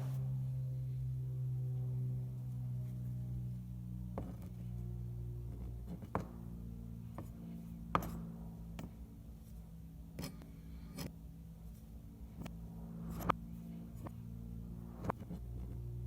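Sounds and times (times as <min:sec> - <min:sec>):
low background music drone: 0:00.0 - 0:16.0.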